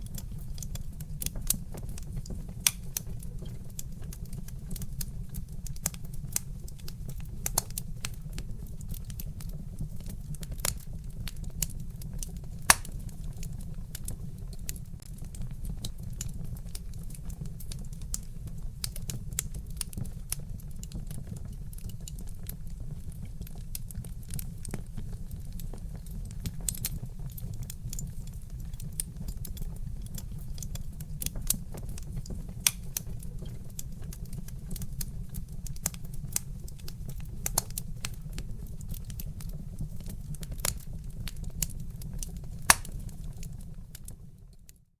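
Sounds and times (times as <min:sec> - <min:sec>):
low fire rumble: 0:00.0 - 0:44.9
wood fire crackling: 0:00.0 - 0:44.9.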